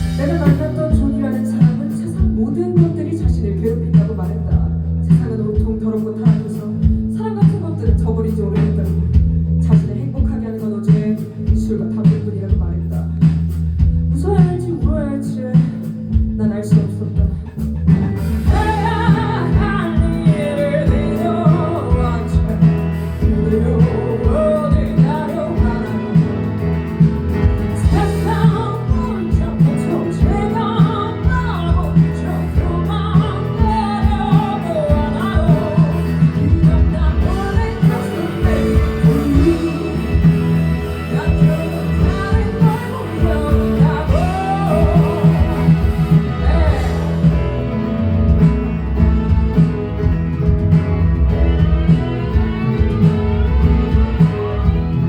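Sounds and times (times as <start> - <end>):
person singing: 0.0 - 13.2, 18.5 - 49.8
live band playing: 0.0 - 55.0.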